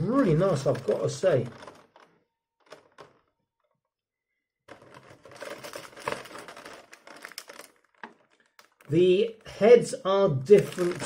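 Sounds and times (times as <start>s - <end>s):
plastic trays crackling: 0.0s - 3.3s, 4.7s - 11.0s.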